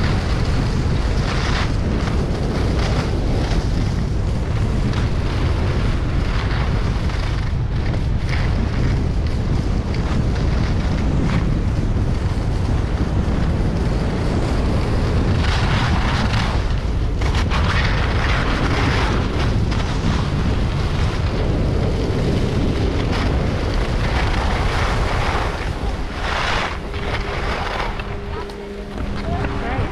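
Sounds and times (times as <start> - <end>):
skis scraping over snow: 0.0 - 29.9
wind buffeting microphone: 0.0 - 29.9.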